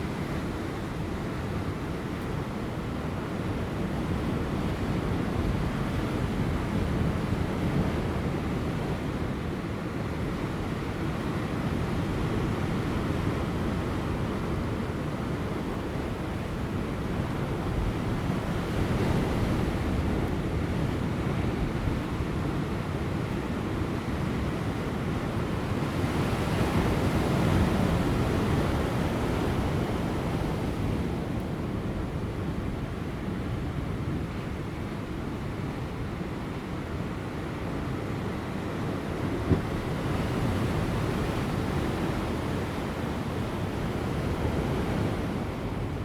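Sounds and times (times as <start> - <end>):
light wind: 0.0 - 46.0.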